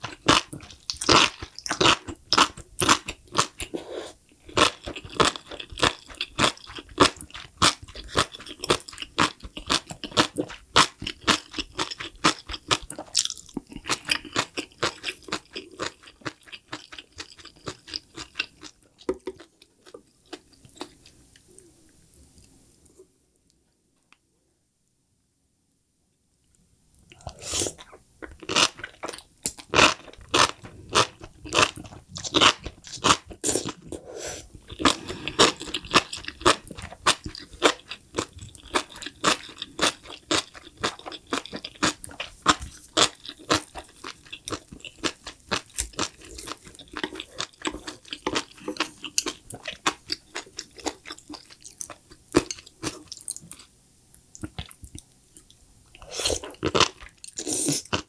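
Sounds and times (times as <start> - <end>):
crunchy chewing: 0.0 - 21.6, 27.1 - 58.0.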